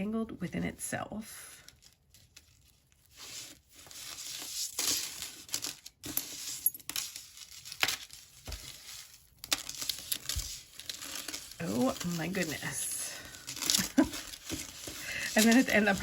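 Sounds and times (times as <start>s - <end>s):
rustling handling noise: 1.7s - 16.0s.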